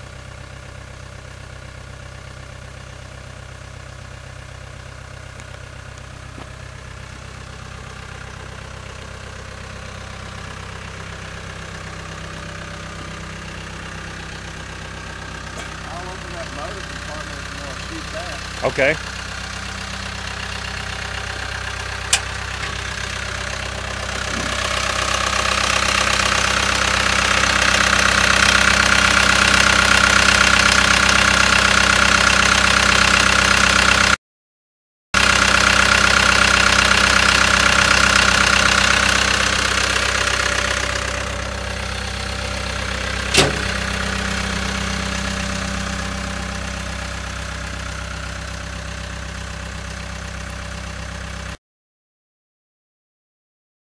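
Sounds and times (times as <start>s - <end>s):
loader diesel engine running: 0.0s - 34.2s, 35.2s - 51.6s.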